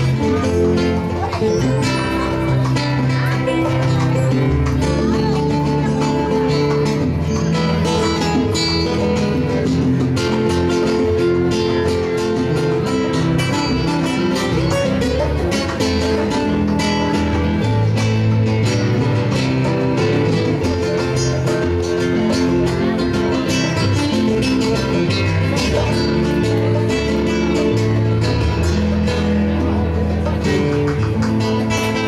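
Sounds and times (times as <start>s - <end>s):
acoustic guitar: 0.0s - 32.0s
hand drums: 0.0s - 32.0s
sustained bass line: 0.0s - 32.0s.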